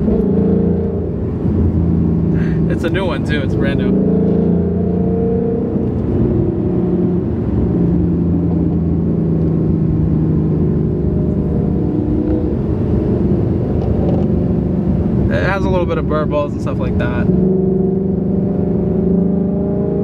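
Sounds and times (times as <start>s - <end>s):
car engine heard from cabin: 0.0s - 20.0s.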